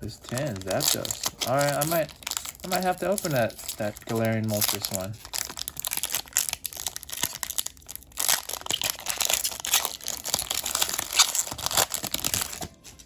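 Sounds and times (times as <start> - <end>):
plastic packaging crumpled and torn: 0.0 - 13.0.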